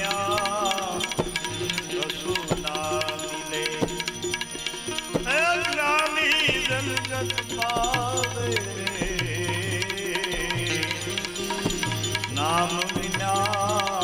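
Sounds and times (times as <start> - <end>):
percussion strokes: 0.0 - 14.0
person singing wavering melody: 0.0 - 14.0.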